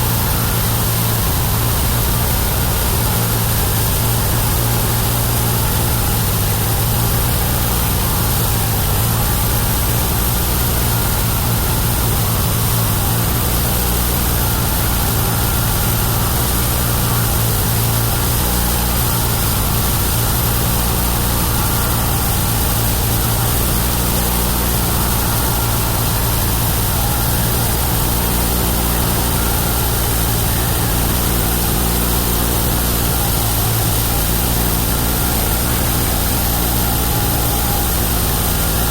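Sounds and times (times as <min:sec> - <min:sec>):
bandsaw mill engine running: 0:00.0 - 0:38.9.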